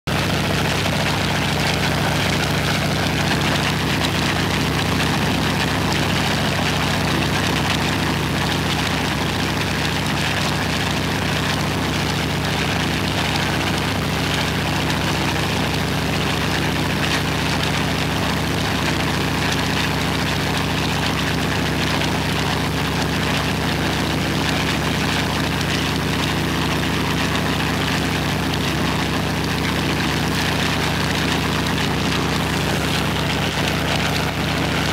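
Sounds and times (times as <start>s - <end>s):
radial piston engine running: 0.0s - 34.9s.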